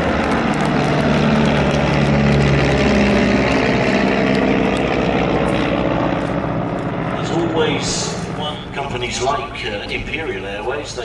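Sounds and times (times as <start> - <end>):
propeller plane engine in flight: 0.0 - 11.0.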